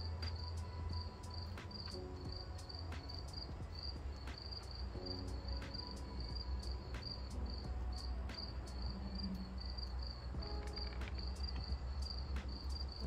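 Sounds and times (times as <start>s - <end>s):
crickets chirping: 0.0s - 13.0s
low background rumble: 0.0s - 13.0s.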